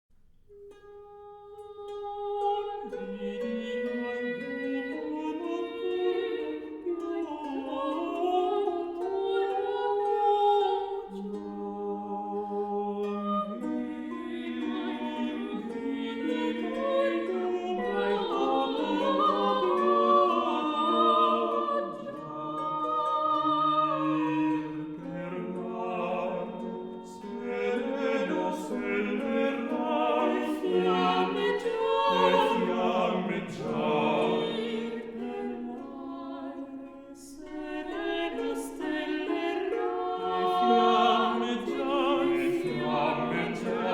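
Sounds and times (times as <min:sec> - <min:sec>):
vocal ensemble singing polyphony: 0:01.1 - 0:43.9.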